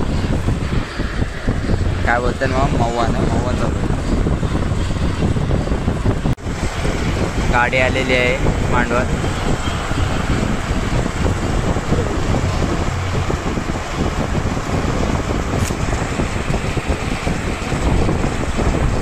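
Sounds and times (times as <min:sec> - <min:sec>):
rushing noise with deep rumble: 0:00.0 - 0:19.0
wind buffeting microphone: 0:00.0 - 0:19.0.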